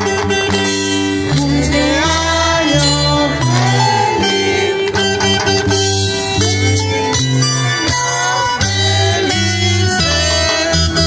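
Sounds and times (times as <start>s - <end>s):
guitar music with bass line: 0.0s - 11.0s.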